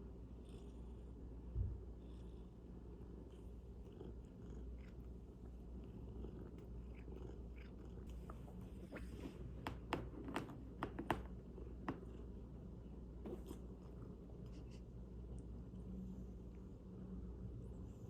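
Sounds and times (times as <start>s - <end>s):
cat purring: 1.9s - 18.0s.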